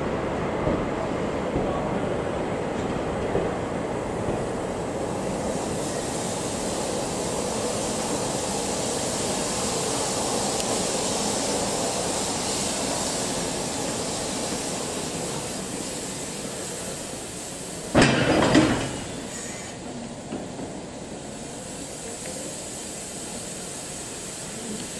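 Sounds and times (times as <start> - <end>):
train wheels on rails: 0.0 - 24.9
steady hiss: 4.4 - 24.9.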